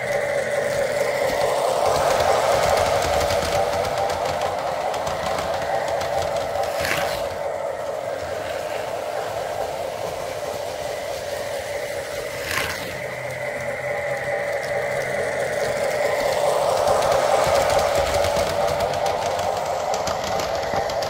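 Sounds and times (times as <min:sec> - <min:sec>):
model train wheels rumbling: 0:00.0 - 0:21.0
thin steady whine: 0:00.0 - 0:21.0.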